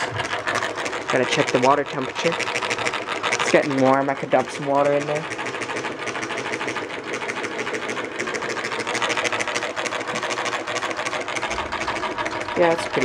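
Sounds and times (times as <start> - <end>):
small engine piston clacking: 0.0 - 13.0.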